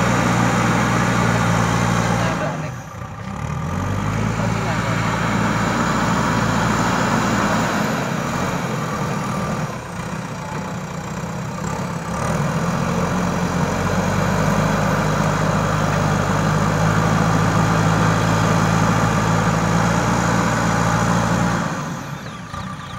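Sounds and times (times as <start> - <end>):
diesel engine running: 0.0 - 22.9
loader bucket working soil: 0.0 - 22.9.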